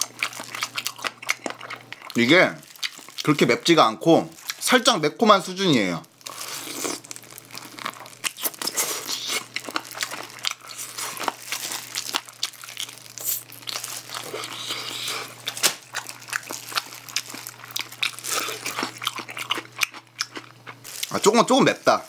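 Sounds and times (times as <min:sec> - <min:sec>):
biting and chewing crunchy food: 0:00.0 - 0:04.9, 0:06.0 - 0:22.0
plastic glove crinkling: 0:01.8 - 0:19.0, 0:20.8 - 0:22.0.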